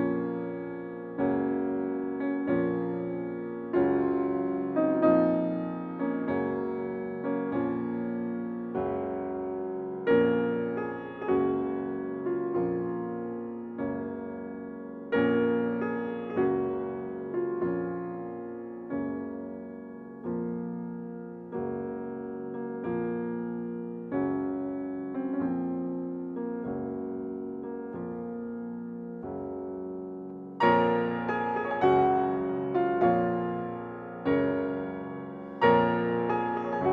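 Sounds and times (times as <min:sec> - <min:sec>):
slow piano chords: 0:00.0 - 0:36.9.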